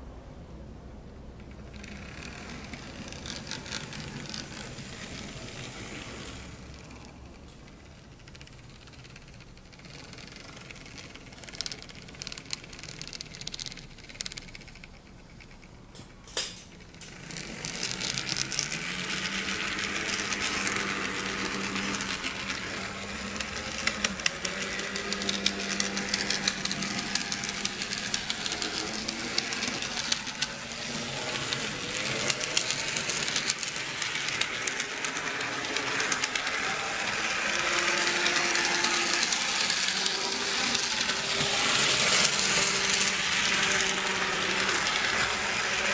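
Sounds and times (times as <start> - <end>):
gears clicking and rattling: 1.4 - 45.9
model train motor whirring: 1.4 - 45.9.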